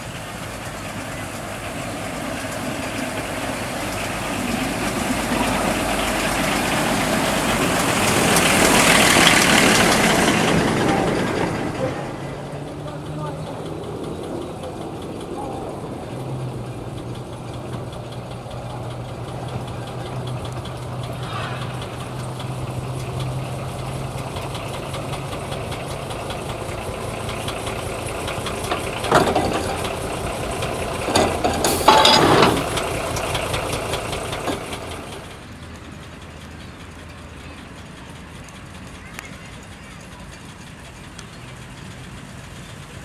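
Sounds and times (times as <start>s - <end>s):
carriages clattering on track: 0.0s - 43.0s
locomotive engine running: 0.0s - 43.0s.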